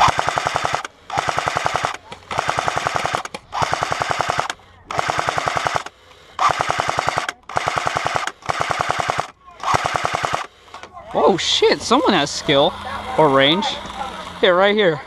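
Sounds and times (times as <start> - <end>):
airsoft rifle full-auto bursts: 0.0 - 15.0.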